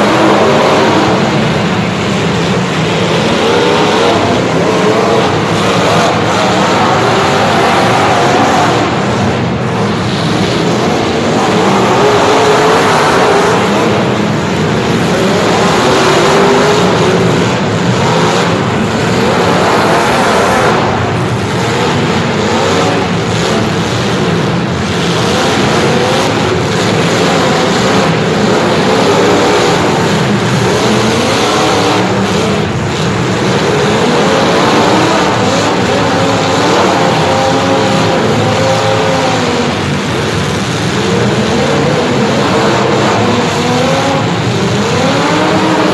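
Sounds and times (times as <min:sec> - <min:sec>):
vehicle engines revving: 0:00.0 - 0:45.9.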